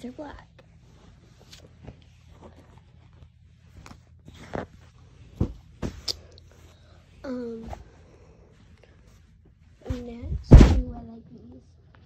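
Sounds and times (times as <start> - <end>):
fabric rustling: 0.6 - 10.9.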